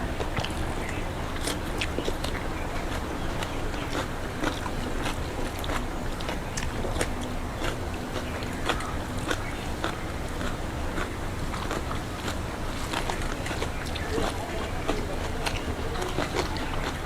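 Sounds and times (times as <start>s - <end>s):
chewing noises: 0.0s - 17.0s.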